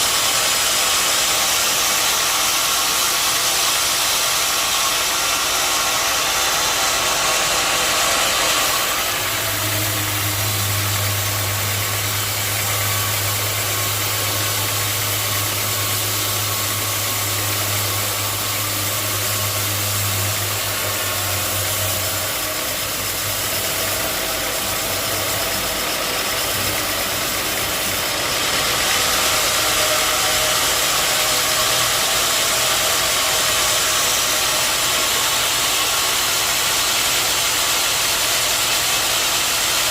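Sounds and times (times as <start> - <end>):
sawmill running with loud hiss: 0.0 - 39.9.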